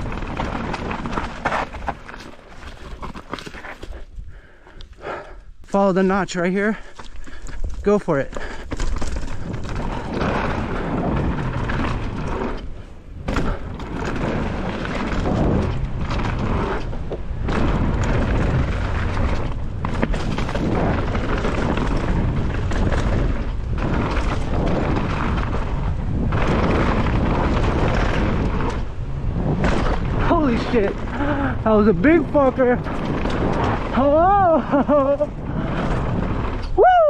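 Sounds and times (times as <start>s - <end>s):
mountain bike rattling: 0.0s - 37.0s
wind buffeting microphone: 2.8s - 37.0s.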